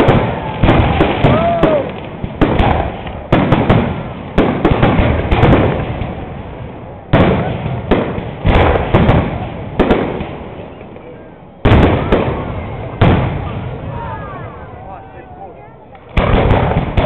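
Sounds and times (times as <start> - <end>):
fireworks bursting with crackle: 0.0 - 17.0.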